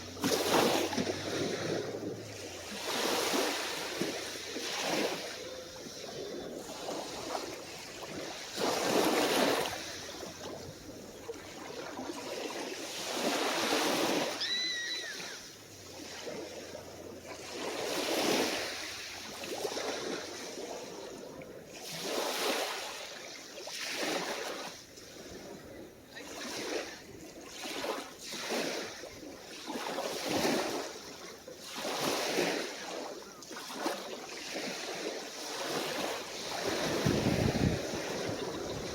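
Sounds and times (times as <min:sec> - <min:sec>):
calm waves washing onto shore: 0:00.0 - 0:38.9.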